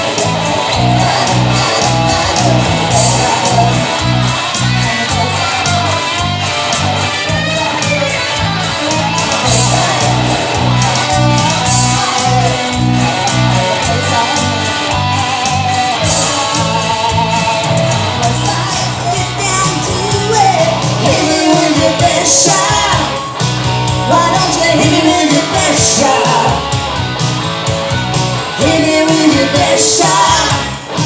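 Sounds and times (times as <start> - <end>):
bass line: 0.0 - 31.0
drum beat: 0.0 - 31.0
electric guitar: 0.0 - 31.0.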